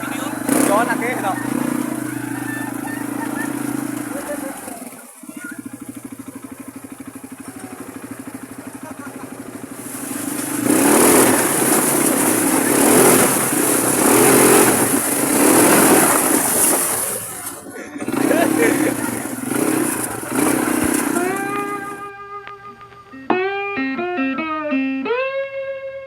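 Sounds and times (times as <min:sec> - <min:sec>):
quad bike engine revving: 0:00.0 - 0:22.1.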